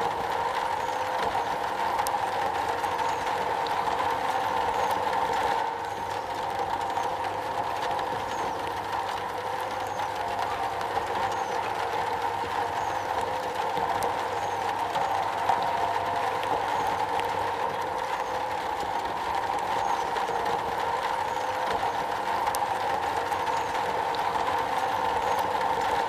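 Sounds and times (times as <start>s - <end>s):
rain on a metal roof: 0.0s - 26.0s.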